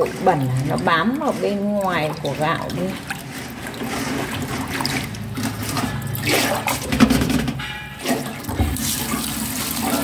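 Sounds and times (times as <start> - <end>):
water draining through basket: 0.0 - 10.0
water sloshing as rice is washed: 0.0 - 10.0.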